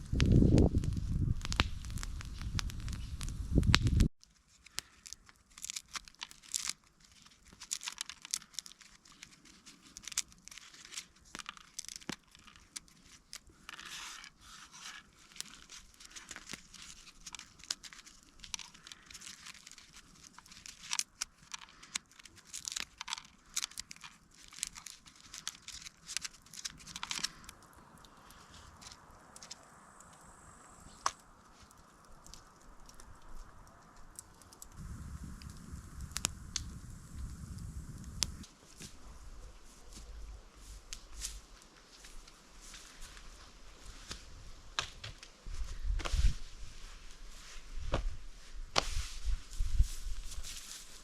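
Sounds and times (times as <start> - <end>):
rustling and tearing: 0.0 - 29.6, 31.0 - 51.0
dry material crackling and crunching: 0.0 - 30.1, 30.9 - 51.0.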